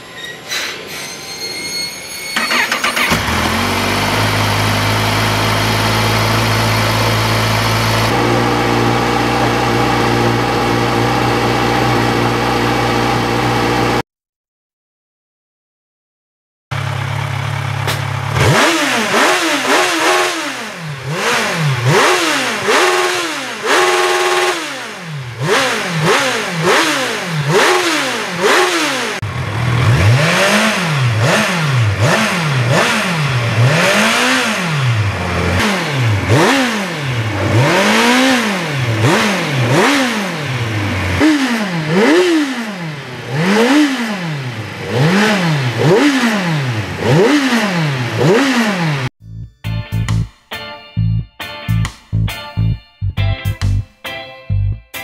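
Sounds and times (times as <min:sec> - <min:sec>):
motorcycle engine revving: 0:02.4 - 0:14.0, 0:16.7 - 0:49.1.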